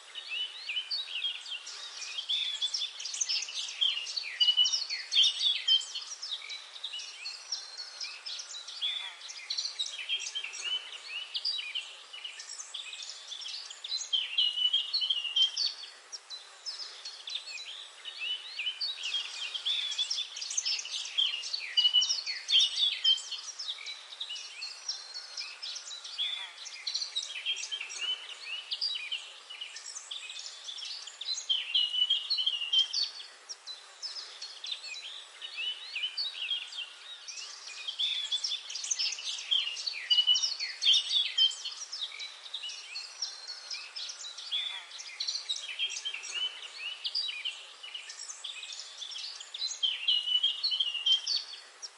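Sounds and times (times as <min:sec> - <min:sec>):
birds singing and chirping: 0:00.0 - 0:51.9
faint background noise: 0:00.0 - 0:51.9.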